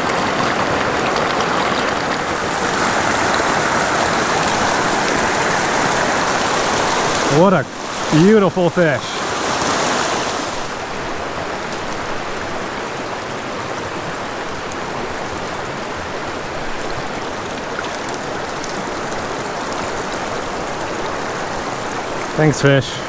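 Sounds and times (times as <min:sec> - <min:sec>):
creek water babbling over rocks: 0:00.0 - 0:23.0.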